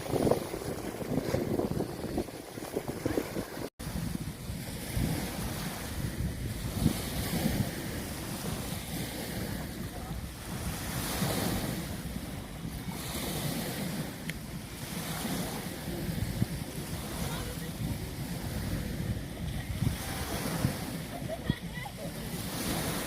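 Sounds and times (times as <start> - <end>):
ocean waves breaking: 0.0 - 23.0
wind buffeting microphone: 0.0 - 23.0.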